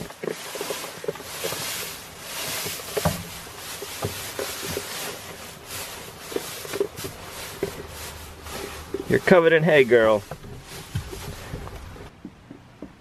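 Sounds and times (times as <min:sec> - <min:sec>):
hay rustling: 0:00.0 - 0:12.1.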